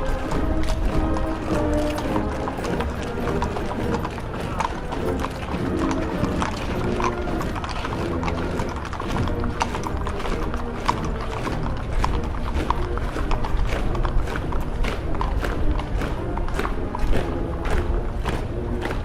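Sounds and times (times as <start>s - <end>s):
band playing: 0.0s - 19.0s
troops marching on hard ground: 0.0s - 19.0s.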